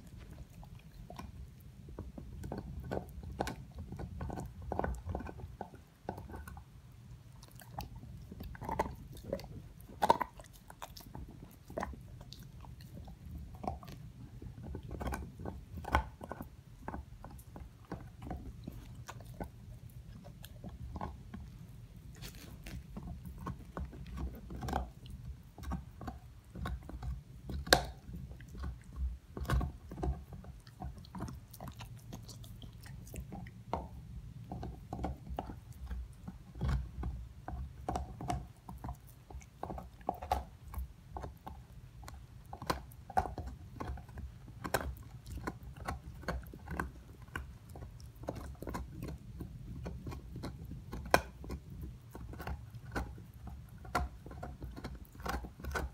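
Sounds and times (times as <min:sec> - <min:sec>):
dog gnawing on bone: 0:00.0 - 0:55.9.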